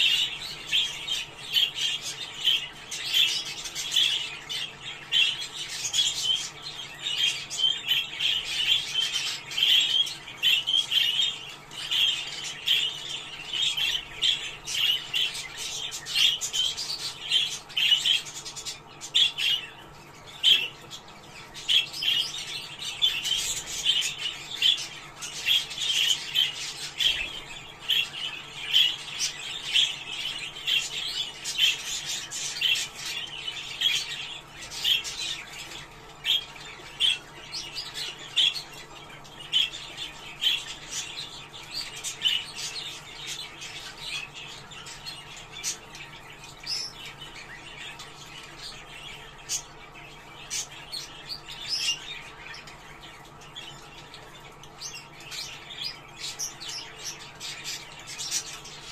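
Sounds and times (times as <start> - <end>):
budgerigars chattering and chirping: 0.0 - 58.9.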